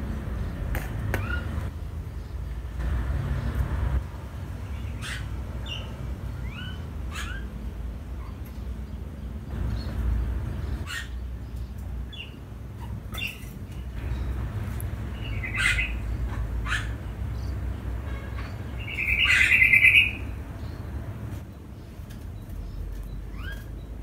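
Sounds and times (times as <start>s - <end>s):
bird chirping: 3.4s - 24.0s.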